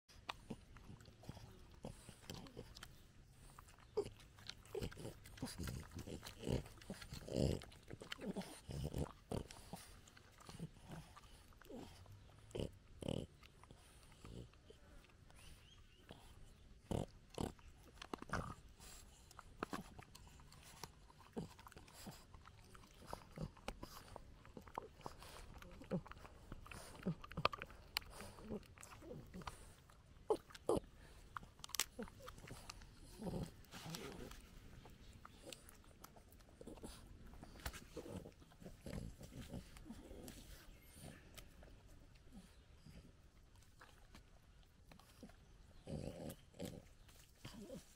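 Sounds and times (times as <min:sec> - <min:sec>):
dog gnawing wooden stick: 0:00.1 - 0:47.9.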